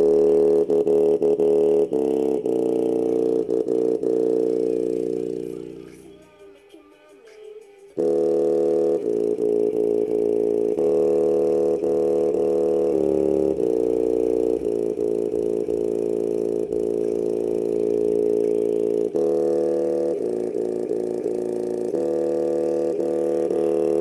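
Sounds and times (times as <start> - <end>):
bass-heavy music from speaker: 0.0 - 24.0.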